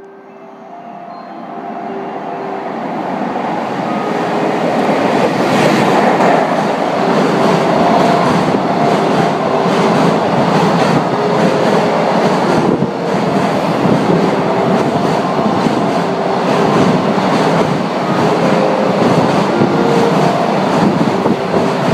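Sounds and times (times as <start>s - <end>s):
train wheels rumbling on rails: 2.7s - 21.9s.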